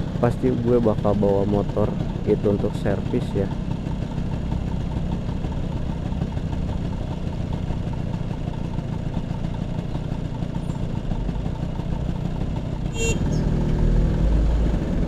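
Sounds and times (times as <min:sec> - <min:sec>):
scooter engine idling: 0:00.0 - 0:13.6.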